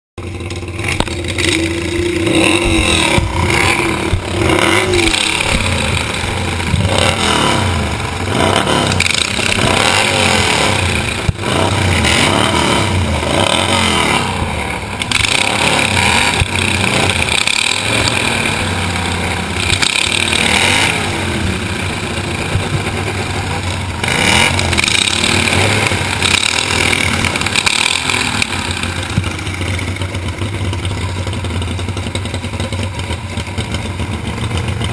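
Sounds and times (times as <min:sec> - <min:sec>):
racing mower engines revving: 0:00.2 - 0:34.9.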